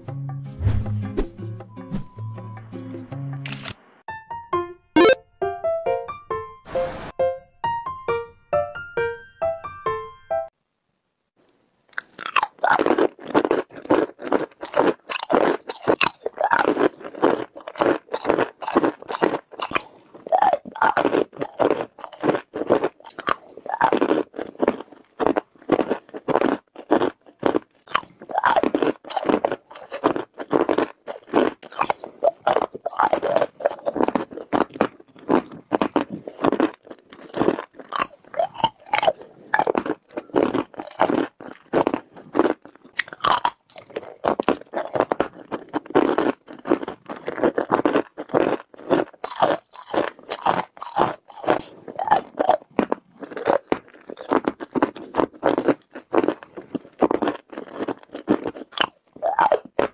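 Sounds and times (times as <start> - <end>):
ice cubes crunching in mouth: 11.9 - 59.9.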